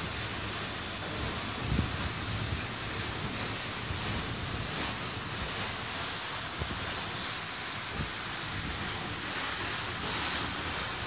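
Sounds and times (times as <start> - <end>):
water and wind rushing: 0.0 - 11.0.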